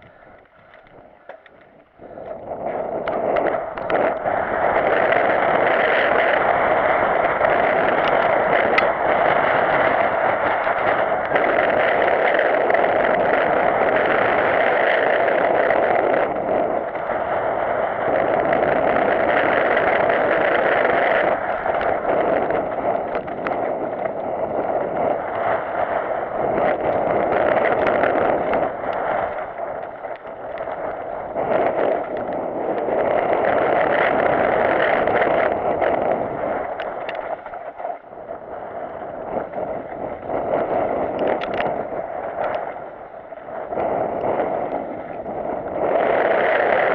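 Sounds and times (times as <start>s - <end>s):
bike knocking and rattling: 0.0s - 46.9s
rushing rumble of tyres and wind: 0.0s - 46.9s.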